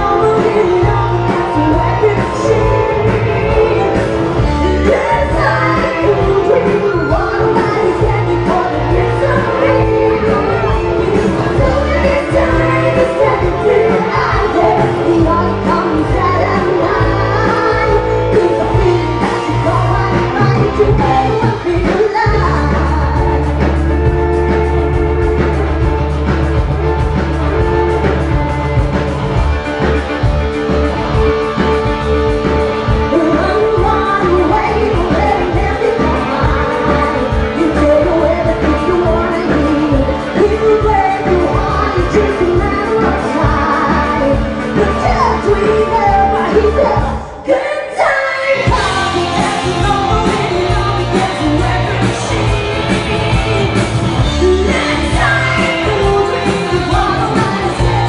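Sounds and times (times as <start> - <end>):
woman singing: 0.0 - 25.8, 32.8 - 58.0
band playing rock music: 0.0 - 58.0.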